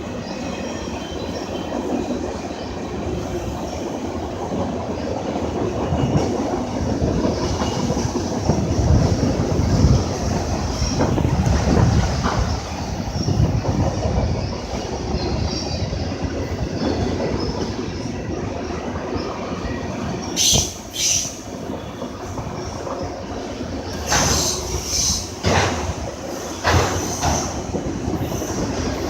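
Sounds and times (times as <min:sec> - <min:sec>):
train wheels rumbling and clattering: 0:00.0 - 0:29.0.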